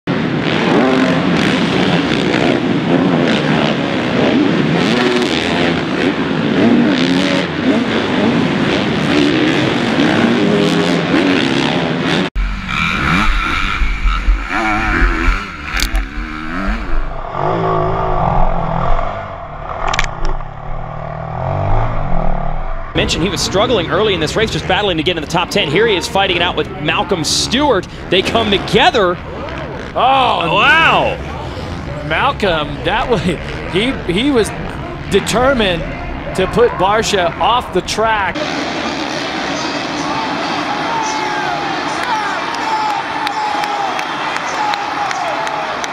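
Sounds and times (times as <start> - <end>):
dirt bikes revving: 0.1 - 45.6.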